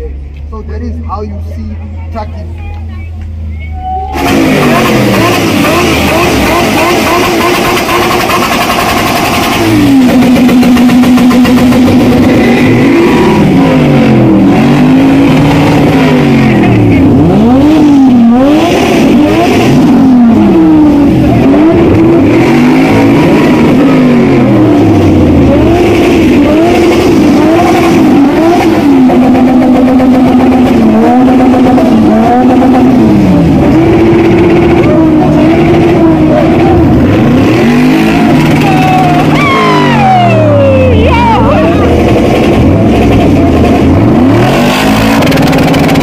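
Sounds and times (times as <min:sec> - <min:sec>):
truck engine revving: 0:04.1 - 0:46.0.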